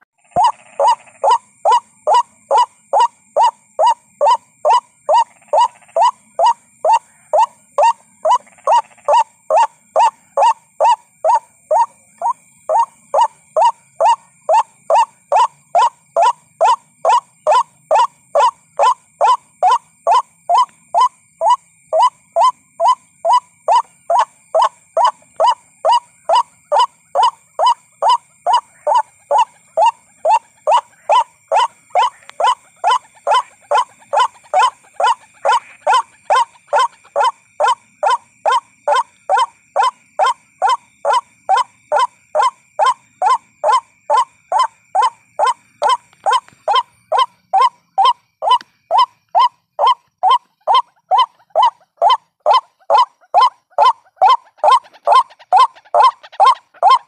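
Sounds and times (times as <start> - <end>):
waterhen calling: 0.0 - 57.0.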